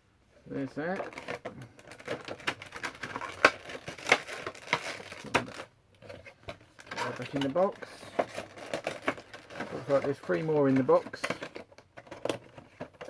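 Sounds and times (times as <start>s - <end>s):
cardboard and plastic crinkling: 0.5s - 13.0s.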